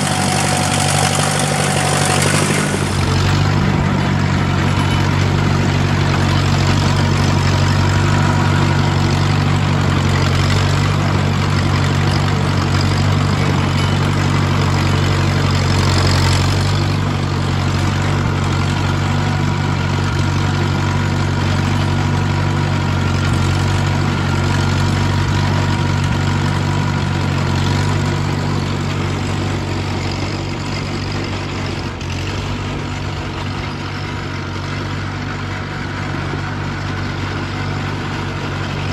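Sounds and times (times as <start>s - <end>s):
road grader engine running: 0.0s - 38.9s.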